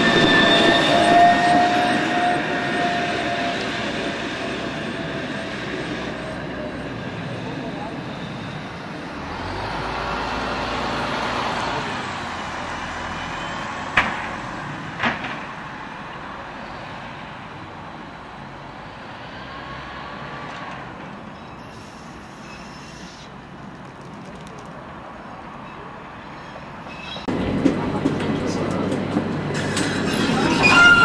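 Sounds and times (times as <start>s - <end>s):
tram rolling along track: 0.0s - 31.0s.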